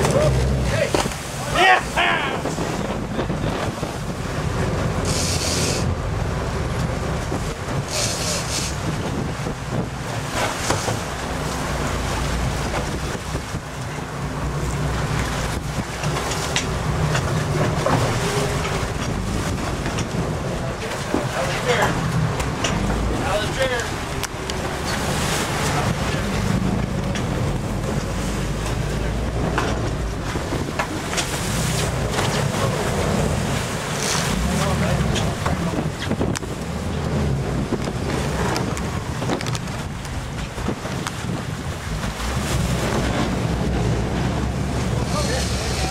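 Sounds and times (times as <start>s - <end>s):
boat engine running: 0.0s - 45.9s
sea water rushing along hull: 0.0s - 45.9s
wind buffeting microphone: 2.2s - 45.9s.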